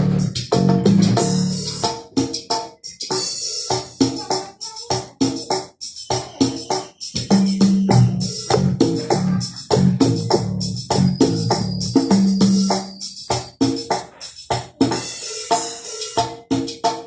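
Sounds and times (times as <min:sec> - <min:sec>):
cumbia synthesizer loop: 0:00.0 - 0:17.0.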